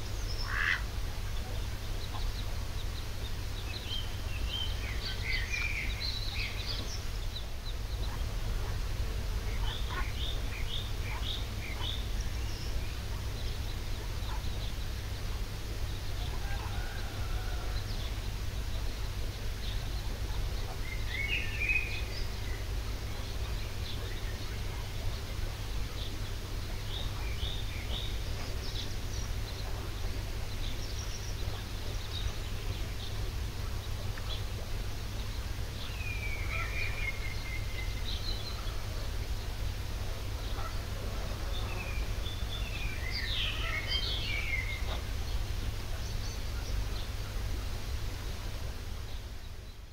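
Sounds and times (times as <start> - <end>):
small birds chirping: 0.0 - 49.9
steady low rumble: 0.0 - 49.9.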